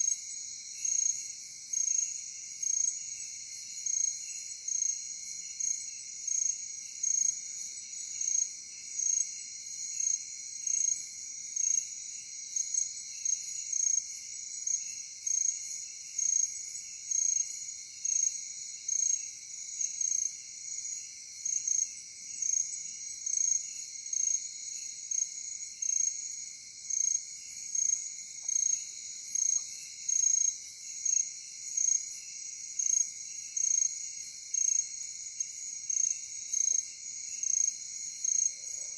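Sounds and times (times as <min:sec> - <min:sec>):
faint lower insect trill: 0:00.0 - 0:38.9.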